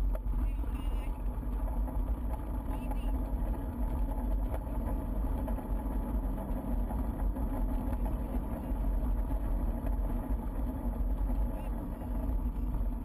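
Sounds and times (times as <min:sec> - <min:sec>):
bicycle tyres rolling on gravel: 0:01.0 - 0:13.0.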